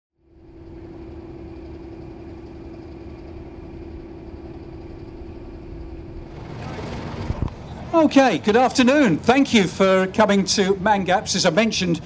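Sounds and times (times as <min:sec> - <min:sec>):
diesel locomotive idling: 0:00.2 - 0:12.0.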